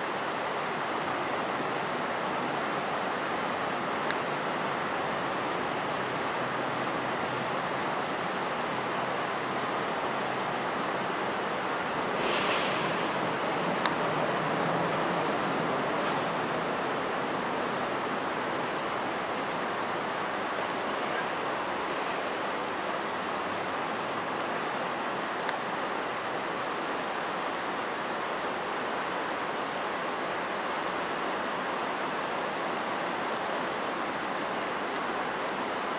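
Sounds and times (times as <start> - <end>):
river water rushing over rocks: 0.0 - 35.9.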